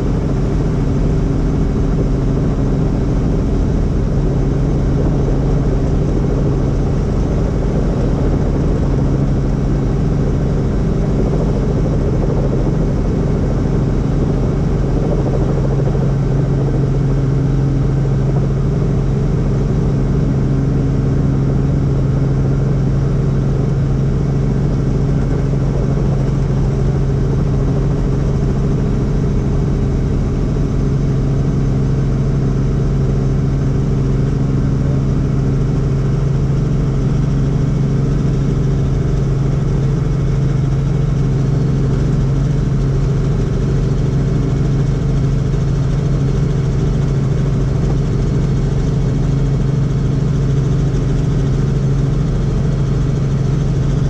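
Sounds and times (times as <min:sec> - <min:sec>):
helicopter drone: 0:00.0 - 0:54.0.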